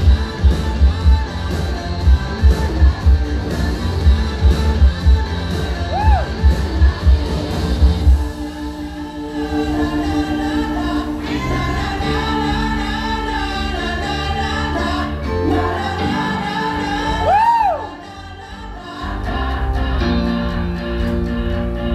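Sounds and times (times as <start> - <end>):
choir-like layered singing: 0.0 - 21.9
gliding vocal note: 0.0 - 21.9.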